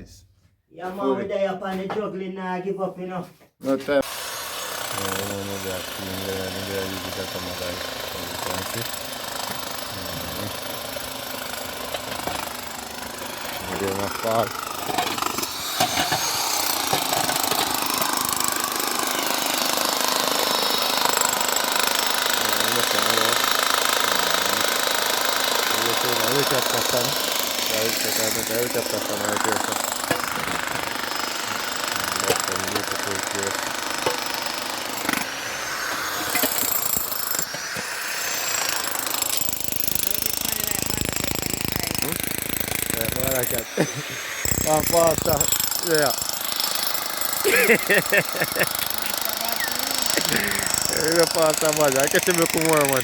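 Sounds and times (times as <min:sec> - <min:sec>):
power tool hammering rattle: 0:04.0 - 0:53.0.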